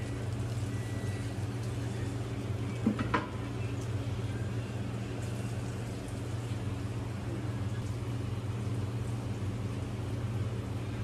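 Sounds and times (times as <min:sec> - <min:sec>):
kitchen low hum: 0:00.0 - 0:11.0.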